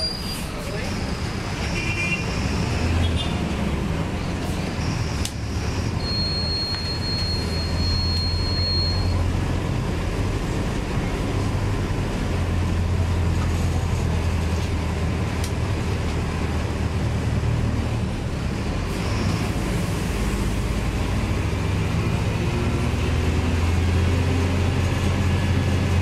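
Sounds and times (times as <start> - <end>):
bus diesel engine droning: 0.0 - 26.0
road noise: 0.0 - 26.0.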